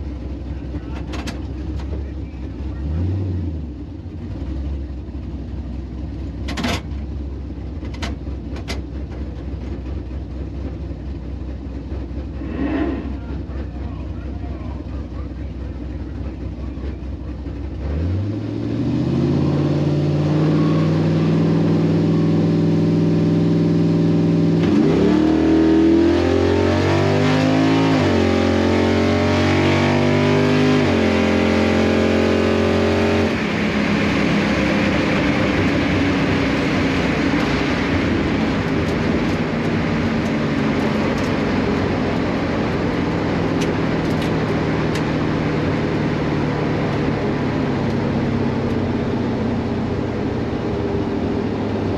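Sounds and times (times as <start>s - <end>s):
car pulling away: 0.0s - 51.9s
drag car engine revving: 0.0s - 51.9s.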